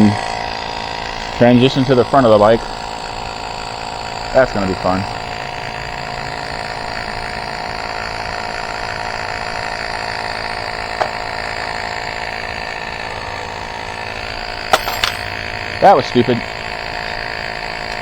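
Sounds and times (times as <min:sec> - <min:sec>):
electric tire inflator humming: 0:00.0 - 0:18.0.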